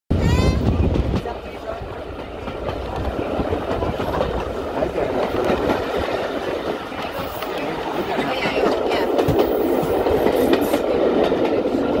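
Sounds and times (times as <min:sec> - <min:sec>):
train wheels rumbling on rails: 0:00.1 - 0:12.0.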